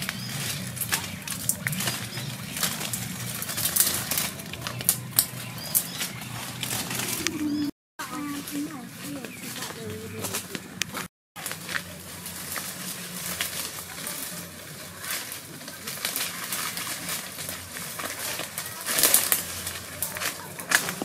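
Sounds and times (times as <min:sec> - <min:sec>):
leaves and twigs rustling: 0:00.0 - 0:21.0.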